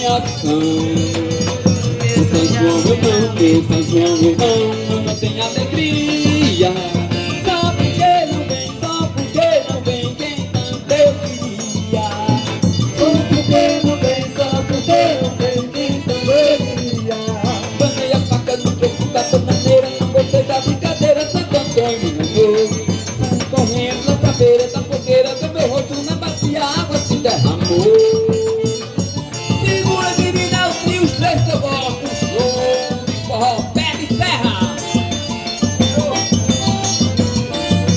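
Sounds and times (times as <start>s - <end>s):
instrumental melody: 0.0s - 37.9s
shaker percussion rhythm: 0.0s - 37.9s.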